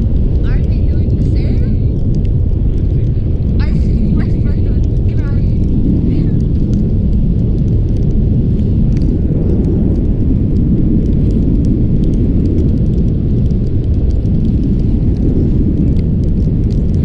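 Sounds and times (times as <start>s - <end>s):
faint small crackles: 0.0s - 17.0s
wind rushing over microphone: 0.0s - 17.0s.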